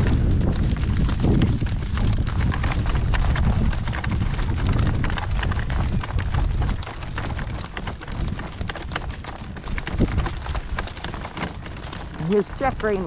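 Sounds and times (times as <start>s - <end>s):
horse hoofbeats: 0.0s - 13.0s.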